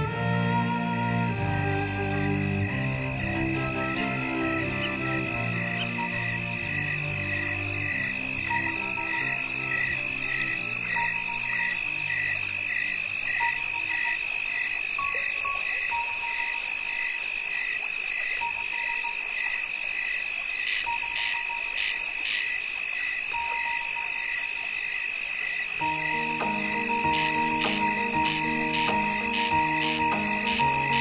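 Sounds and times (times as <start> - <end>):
insects and frogs trilling: 0.0 - 31.0.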